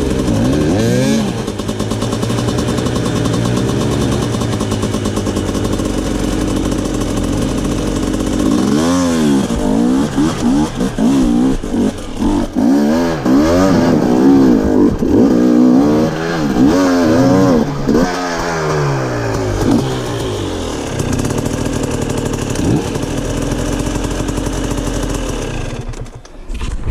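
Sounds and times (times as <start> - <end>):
dirt bike engine revving: 0.0 - 26.2.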